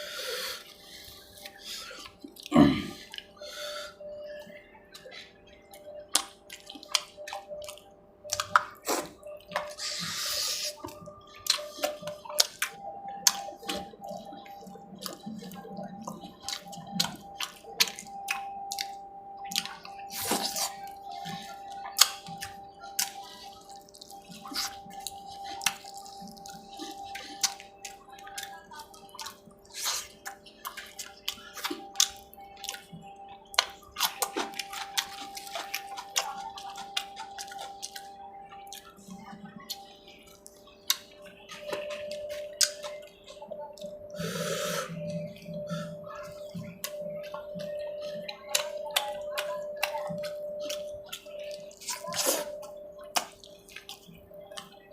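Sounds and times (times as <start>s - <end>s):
wet chewing and smacking: 0.0s - 54.9s.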